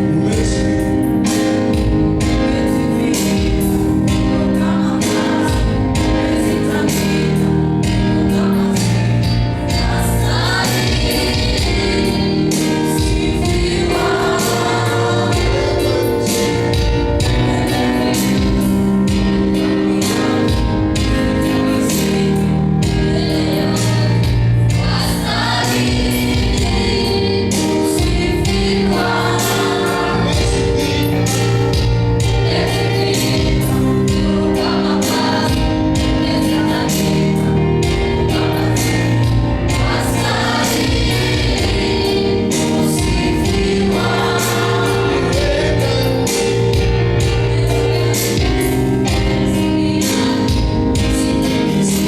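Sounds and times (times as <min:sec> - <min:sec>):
choir singing gospel song: 0:00.0 - 0:52.0
steady beat: 0:03.3 - 0:49.6.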